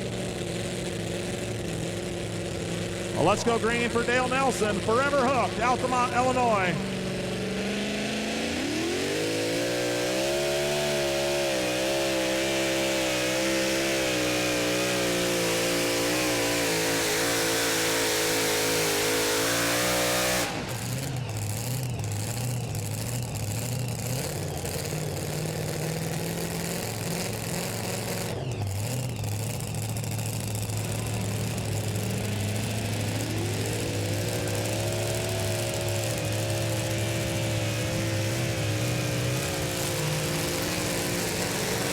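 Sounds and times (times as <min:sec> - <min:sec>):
pulling truck engine revving: 0:00.0 - 0:41.9.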